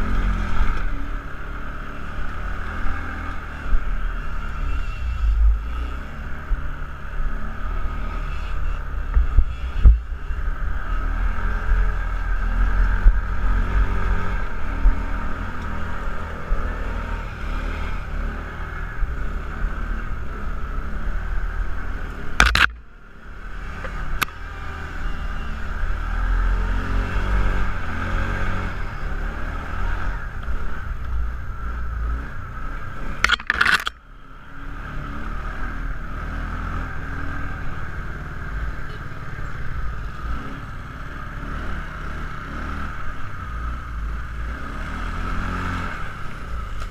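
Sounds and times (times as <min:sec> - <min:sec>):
atv engine rumble: 0:00.0 - 0:46.9.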